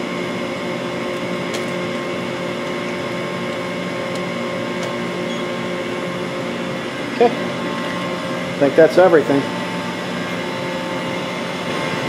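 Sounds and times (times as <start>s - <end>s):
chip conveyor humming: 0.0s - 12.0s.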